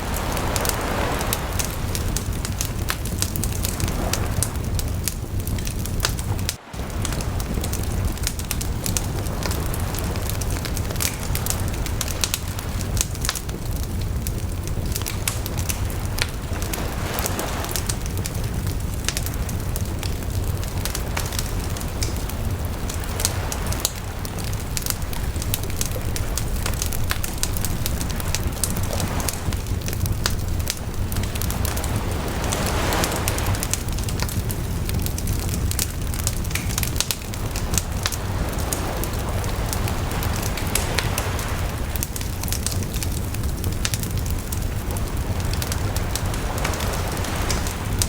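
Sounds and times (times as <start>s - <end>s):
campfire crackling and popping: 0.0s - 48.0s
ocean waves breaking: 0.0s - 48.0s.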